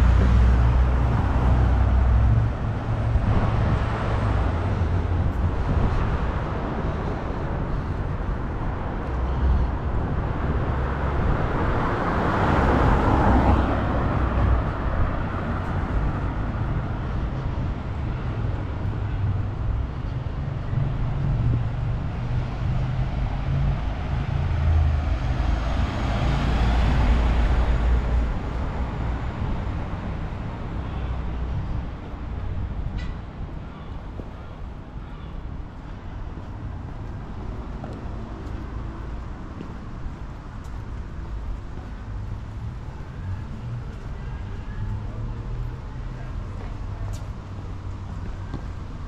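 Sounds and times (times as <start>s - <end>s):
rumble of traffic: 0.0s - 49.0s.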